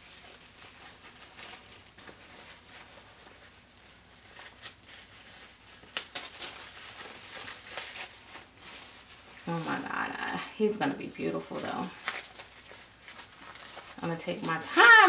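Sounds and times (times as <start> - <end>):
diaper rustling and crinkling: 0.0 - 15.0.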